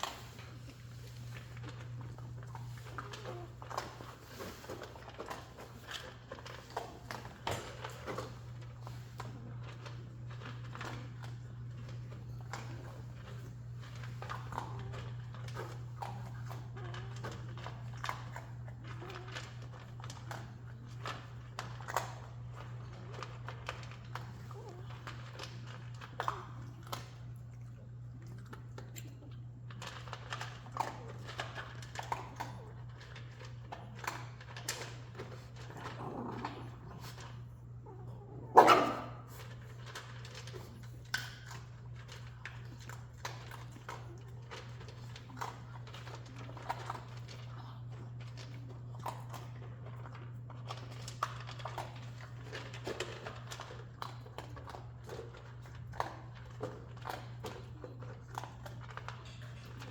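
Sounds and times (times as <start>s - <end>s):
puppies scrabbling: 0.0s - 28.6s, 29.4s - 59.9s.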